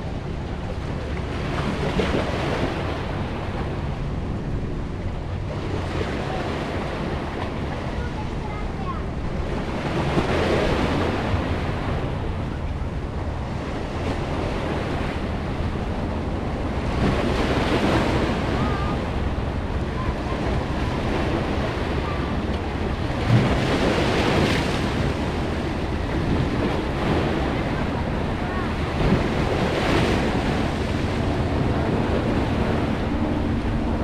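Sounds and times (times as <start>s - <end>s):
wind rumble on microphone: 0.0s - 34.0s
waves splashing against boulders: 5.3s - 34.0s.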